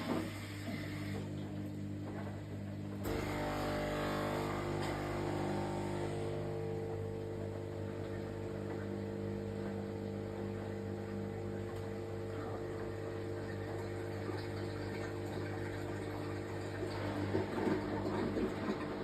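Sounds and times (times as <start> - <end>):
washing machine running: 0.0 - 19.0.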